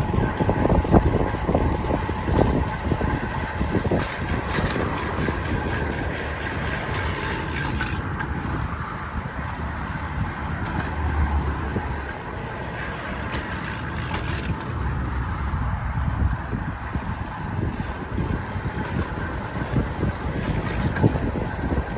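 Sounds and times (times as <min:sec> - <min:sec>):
low road noise rumble: 0:00.0 - 0:21.9
wind on microphone: 0:00.0 - 0:21.9.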